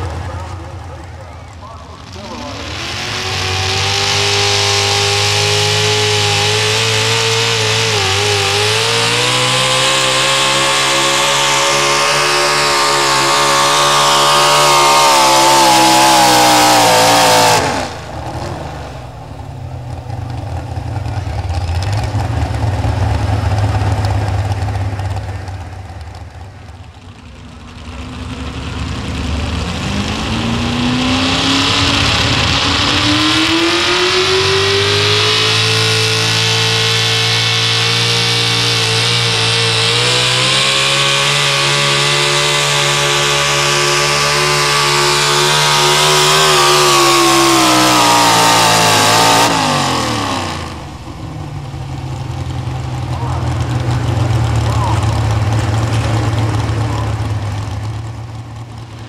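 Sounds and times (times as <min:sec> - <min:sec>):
low rough engine noise: 0:00.0 - 0:59.0
truck engine at full throttle: 0:00.0 - 0:59.0.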